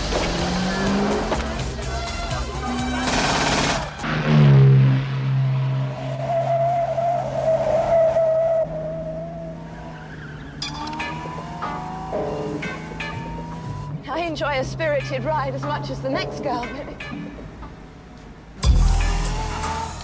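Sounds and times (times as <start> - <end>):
car engines racing: 0.0 - 20.0.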